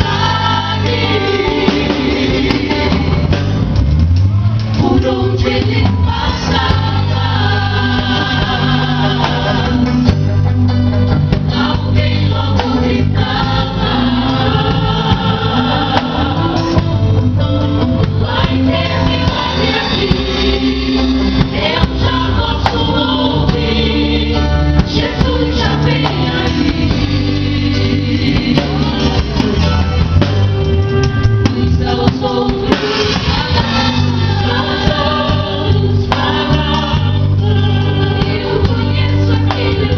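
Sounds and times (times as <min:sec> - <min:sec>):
choir singing: 0:00.0 - 0:03.6, 0:04.7 - 0:10.3, 0:11.3 - 0:29.8, 0:30.9 - 0:39.9
church band with strong bass: 0:00.0 - 0:39.9.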